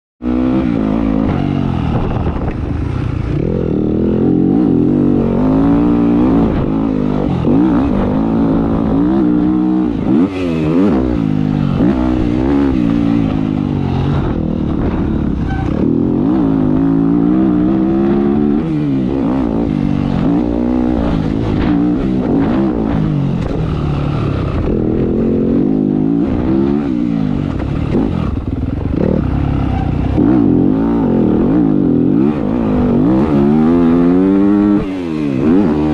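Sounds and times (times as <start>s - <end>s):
dirt bike engine revving: 0.2s - 35.9s.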